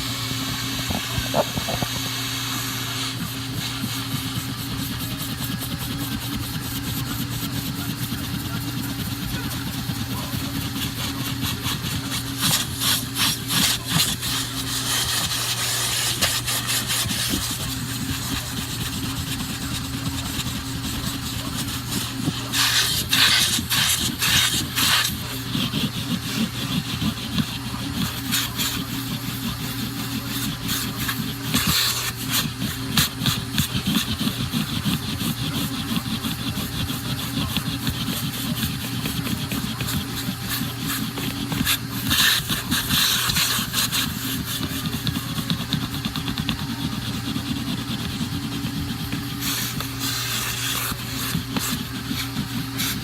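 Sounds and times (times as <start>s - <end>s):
vacuum cleaner motor running: 0.0s - 53.0s.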